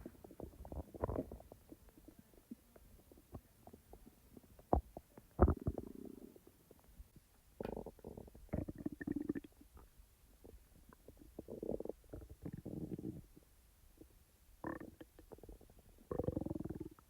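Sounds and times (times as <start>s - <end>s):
stomach gurgling and rumbling: 0.0s - 17.0s.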